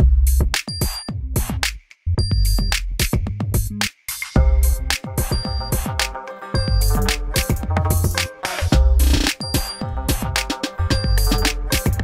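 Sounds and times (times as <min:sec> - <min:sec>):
electronic music with drum-machine beat: 0:00.0 - 0:12.0.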